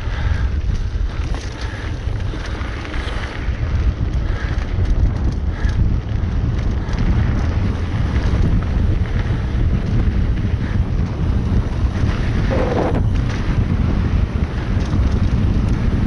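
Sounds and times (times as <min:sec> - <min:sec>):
bike rumbling and rattling: 0:00.0 - 0:16.0
wind buffeting microphone: 0:00.0 - 0:16.0.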